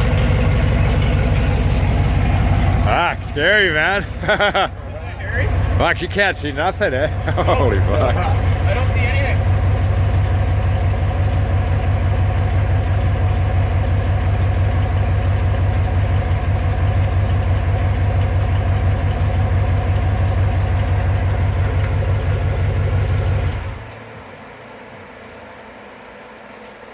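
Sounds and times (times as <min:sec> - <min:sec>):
truck engine idling: 0:00.0 - 0:26.9.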